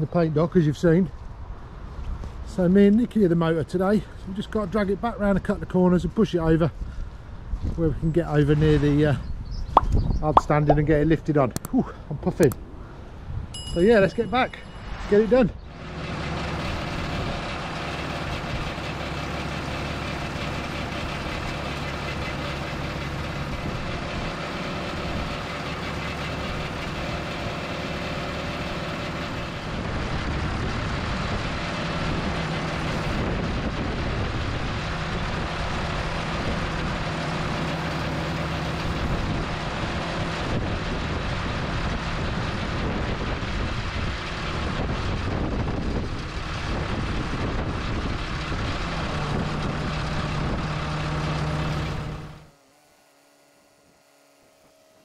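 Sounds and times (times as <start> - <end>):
diesel engine running: 1.2 - 55.0.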